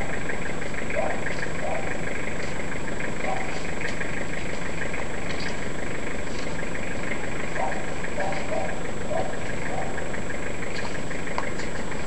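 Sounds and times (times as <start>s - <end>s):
regular ticking: 0.0s - 12.0s
truck engine idling: 0.0s - 12.0s.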